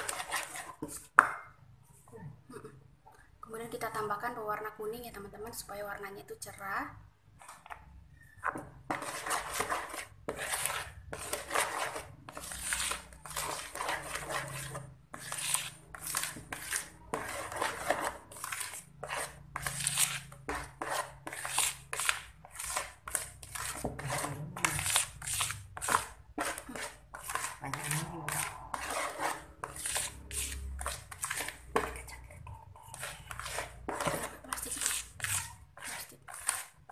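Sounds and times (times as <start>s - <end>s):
spatula scraping plastic basin: 0.0s - 1.3s, 7.3s - 36.9s.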